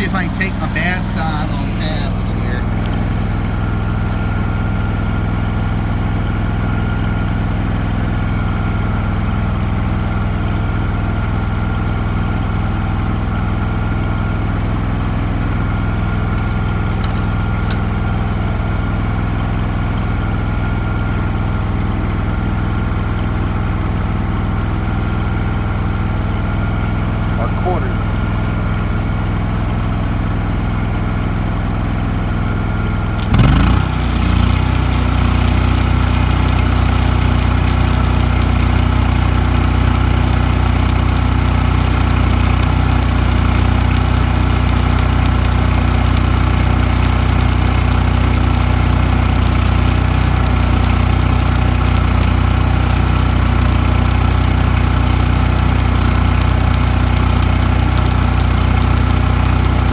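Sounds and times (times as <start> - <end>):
welding arc crackling hiss: 0.0 - 21.4, 32.7 - 59.9
welder engine droning: 0.0 - 59.9.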